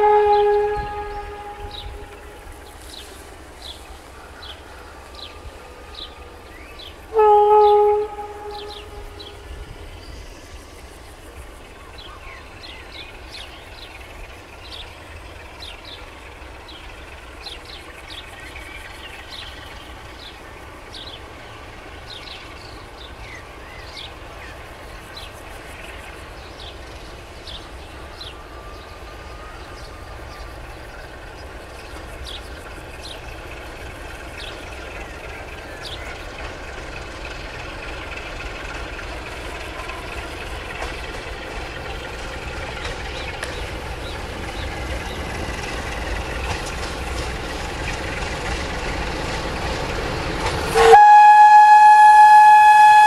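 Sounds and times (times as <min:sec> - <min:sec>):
songbirds chirping: 0:00.0 - 0:50.7
diesel locomotive engine rumble: 0:00.0 - 0:53.0.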